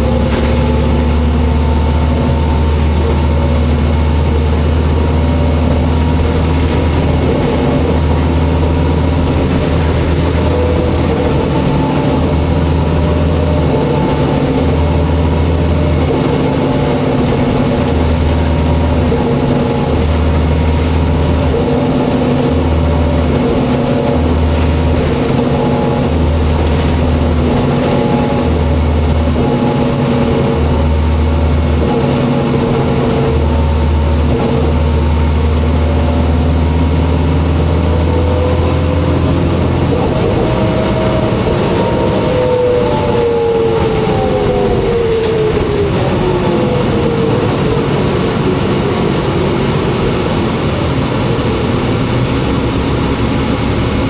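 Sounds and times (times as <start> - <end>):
bus diesel engine drone: 0.0 - 54.0
deep low rumble: 0.0 - 54.0
road and tyre noise: 0.0 - 54.0.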